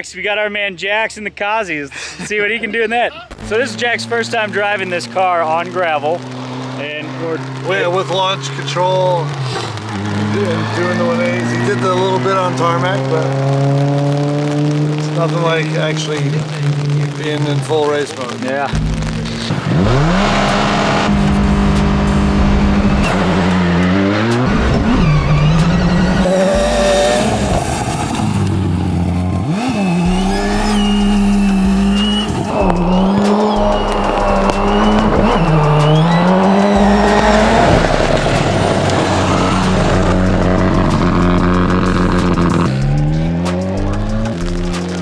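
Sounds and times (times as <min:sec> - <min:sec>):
exhaust crackles: 0:01.9 - 0:45.0
car engine at high revs: 0:03.3 - 0:45.0.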